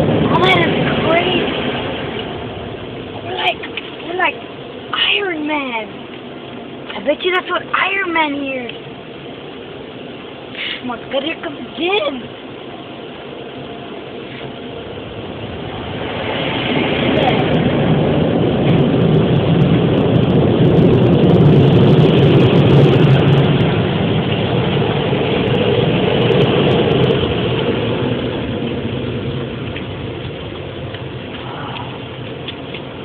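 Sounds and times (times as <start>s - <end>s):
car wash blowers rushing air: 0.0s - 33.0s.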